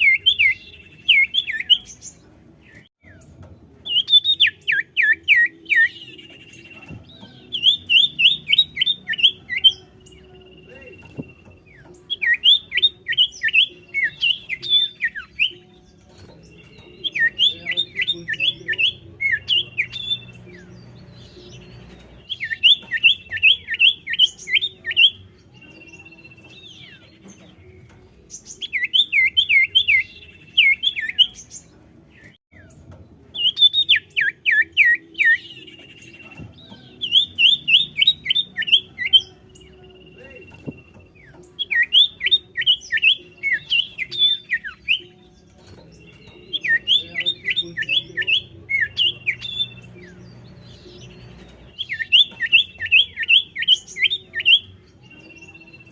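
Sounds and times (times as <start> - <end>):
bird singing falling whistled notes: 0.0 - 55.9.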